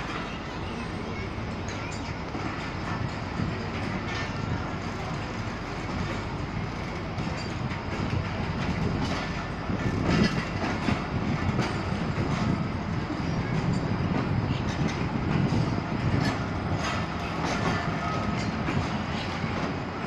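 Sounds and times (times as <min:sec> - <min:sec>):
rumble of train carriages: 0:00.0 - 0:20.0
wheels clicking over rail joints: 0:00.0 - 0:20.0.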